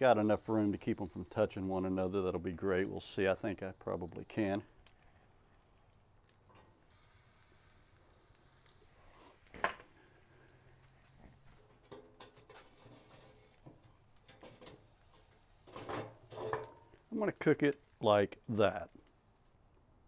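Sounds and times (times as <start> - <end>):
chicken sizzling on grill: 0.0 - 19.6.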